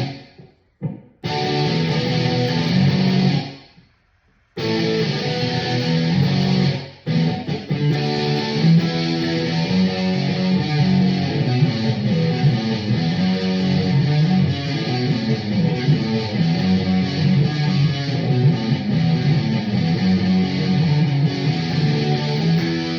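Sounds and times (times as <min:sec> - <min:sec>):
electric guitar playing: 0:00.0 - 0:03.7, 0:04.6 - 0:22.9.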